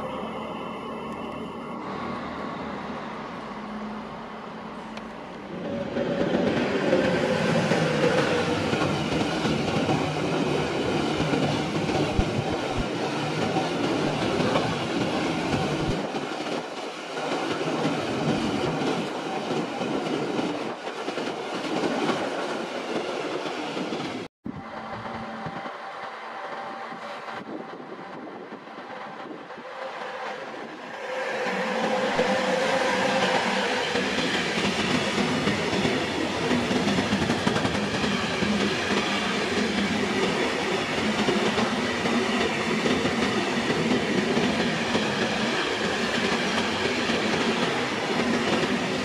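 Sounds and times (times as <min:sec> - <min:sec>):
freight train passing: 0:00.0 - 0:49.0
train pulling into station: 0:00.0 - 0:49.0.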